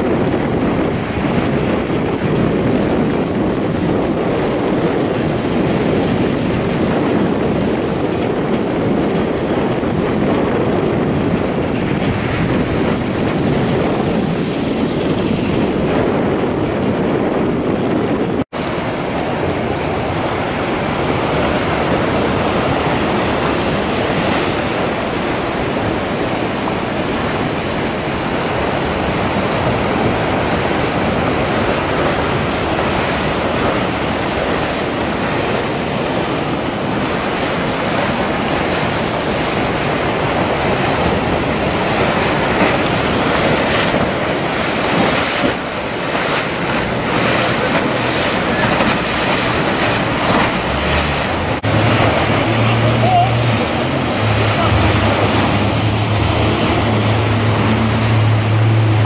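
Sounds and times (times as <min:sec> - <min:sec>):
waves breaking: 0:00.0 - 0:59.0
wind buffeting microphone: 0:00.0 - 0:59.0.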